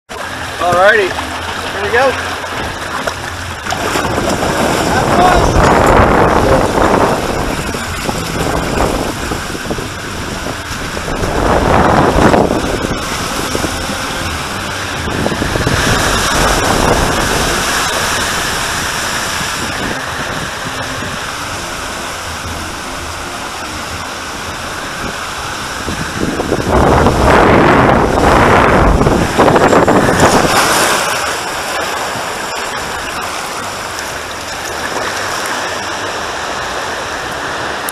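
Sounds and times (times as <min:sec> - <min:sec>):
water rushing down a slide: 0:00.1 - 0:37.9
wind on microphone: 0:00.1 - 0:37.9.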